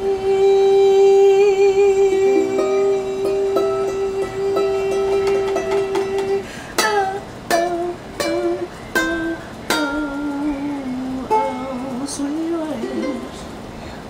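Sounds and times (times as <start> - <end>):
ukulele strummed chords: 0.0 - 13.6
voice holding wordless notes: 0.0 - 13.6.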